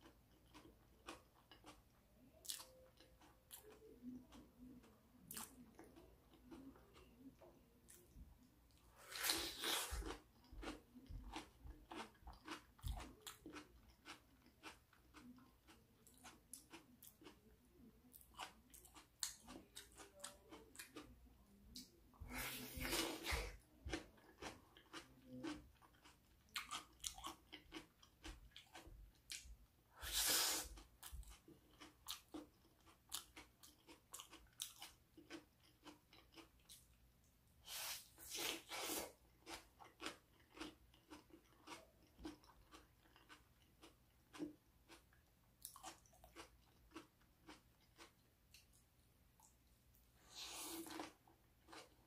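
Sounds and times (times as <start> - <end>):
chewing and crunching pepper: 0.0 - 52.0.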